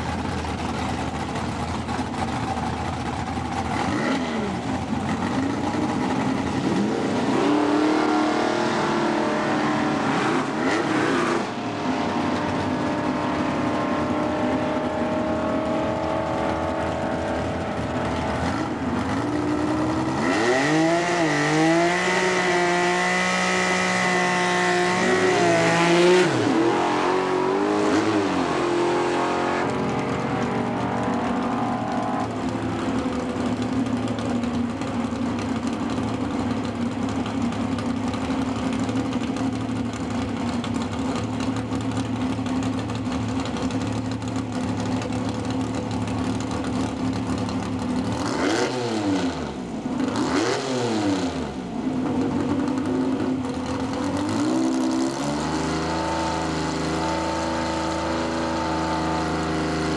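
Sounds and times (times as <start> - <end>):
drag car engine revving: 0.0 - 59.9
tire spinning in a burnout: 0.0 - 59.9.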